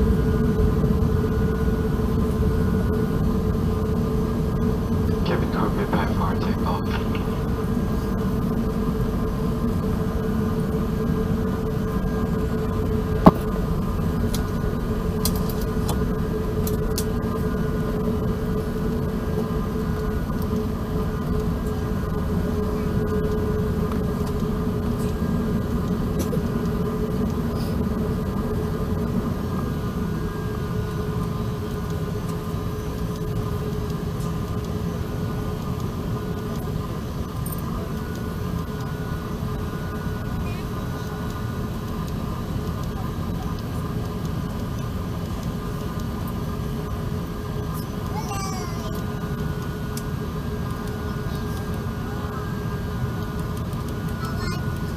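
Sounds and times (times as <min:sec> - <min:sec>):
airliner cabin low rumble: 0:00.0 - 0:54.9
steady hum: 0:00.0 - 0:54.9.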